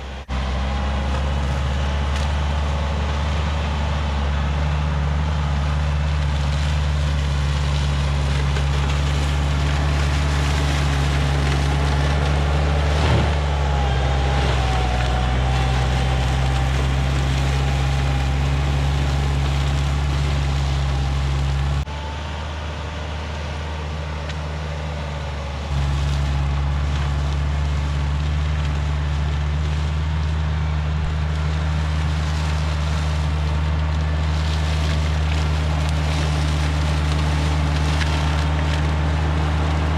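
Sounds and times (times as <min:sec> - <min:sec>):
motor engine running: 0:00.0 - 0:39.9.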